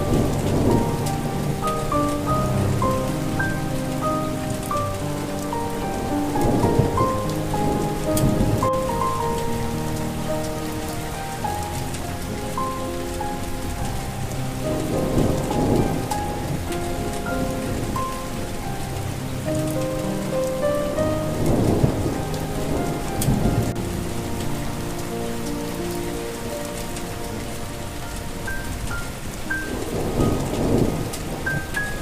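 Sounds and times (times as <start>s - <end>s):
soft slow melody: 0.0s - 32.0s
steady rain falling: 0.0s - 32.0s
thunder rumbling: 0.0s - 32.0s.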